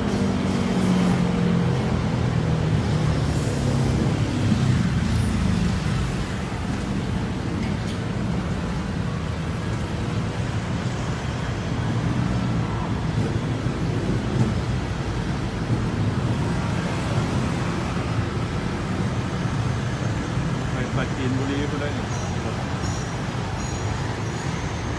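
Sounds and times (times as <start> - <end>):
train rumbling: 0.0 - 24.9.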